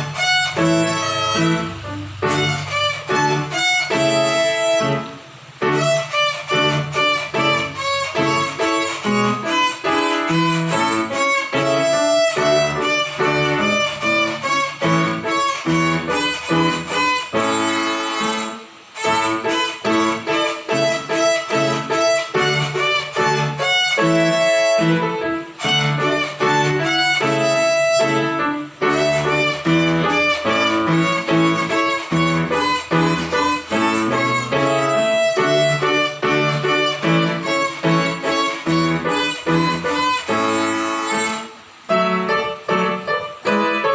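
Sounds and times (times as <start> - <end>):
violin playing a tune: 0.0 - 43.9.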